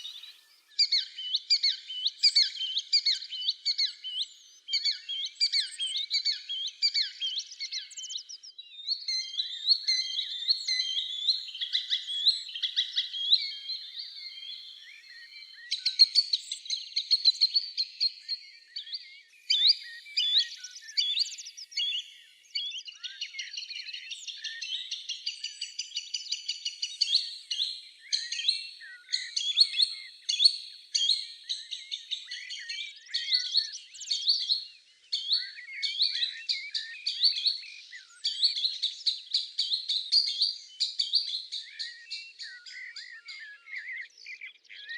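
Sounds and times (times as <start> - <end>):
songbirds chorus chirping and trilling: 0.0 - 44.9.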